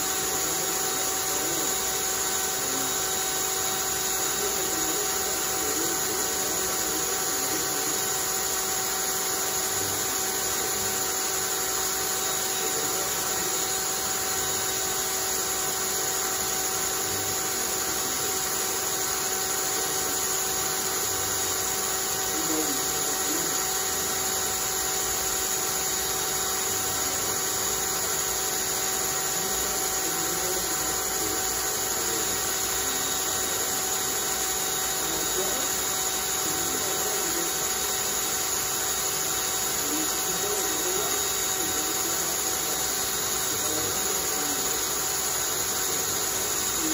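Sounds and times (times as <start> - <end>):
cordless drill whining: 0.0 - 46.9.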